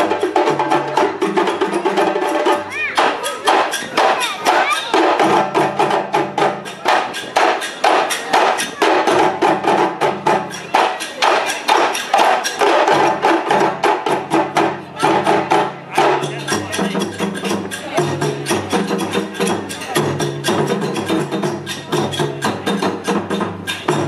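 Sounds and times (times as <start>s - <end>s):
djembe drumming ensemble: 0.0s - 24.0s.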